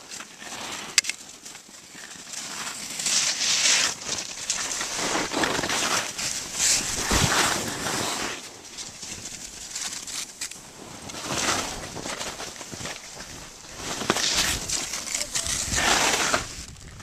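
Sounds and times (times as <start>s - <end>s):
skis swooshing through snow: 0.0s - 17.0s.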